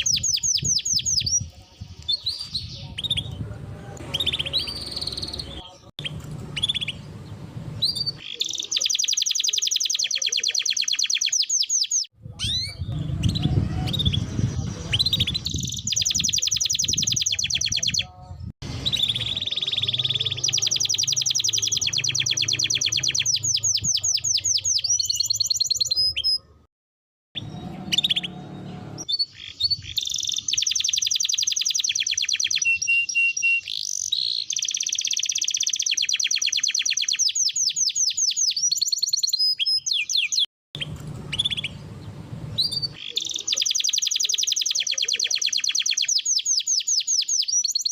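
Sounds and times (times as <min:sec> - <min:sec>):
canary singing trills: 0:00.0 - 0:03.4, 0:04.0 - 0:26.6, 0:27.4 - 0:47.9.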